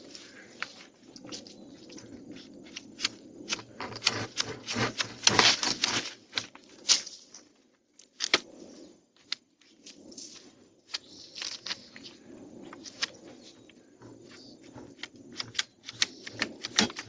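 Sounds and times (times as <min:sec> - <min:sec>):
twigs snapping and cracking: 0:00.1 - 0:07.4, 0:08.0 - 0:08.5, 0:09.2 - 0:13.7, 0:14.8 - 0:17.0.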